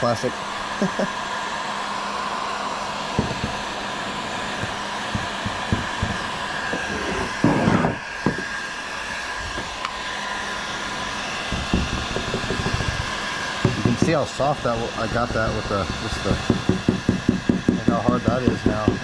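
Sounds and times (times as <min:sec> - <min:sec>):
heat gun blowing with whine: 0:00.0 - 0:19.0.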